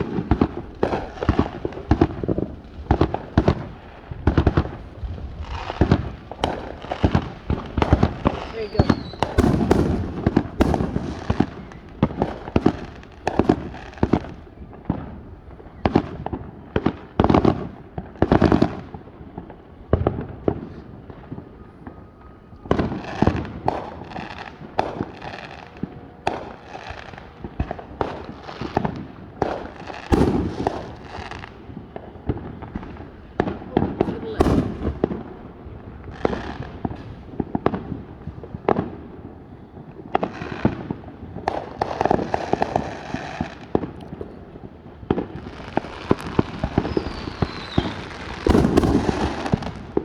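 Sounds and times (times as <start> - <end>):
fireworks bangs and booms: 0.0 - 50.0
fireworks crackling pops: 0.0 - 50.0.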